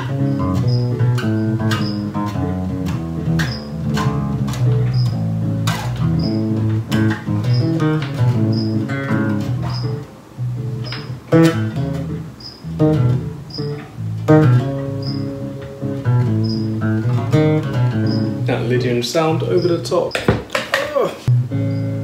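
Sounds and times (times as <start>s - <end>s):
electric bass plucked notes: 0.0s - 20.1s, 21.3s - 22.0s.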